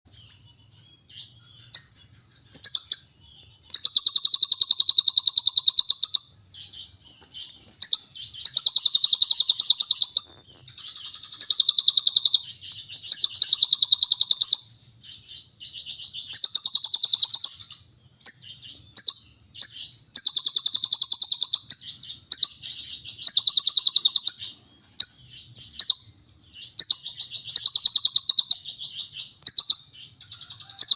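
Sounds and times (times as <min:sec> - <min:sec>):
bird chattering trill: 0:00.1 - 0:30.9
bird chips: 0:00.1 - 0:30.9.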